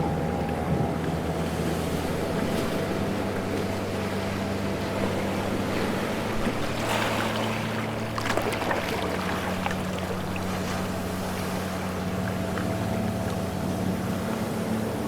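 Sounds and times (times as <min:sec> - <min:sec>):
sea waves splashing: 0:00.0 - 0:15.0
steady low hum: 0:00.0 - 0:15.0.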